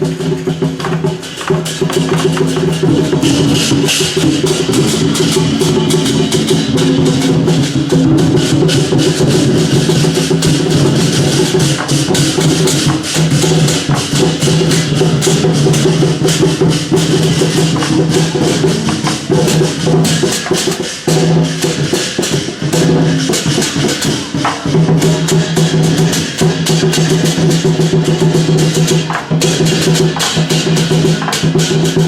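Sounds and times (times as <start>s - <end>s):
rapid percussion strikes: 0.0s - 32.0s.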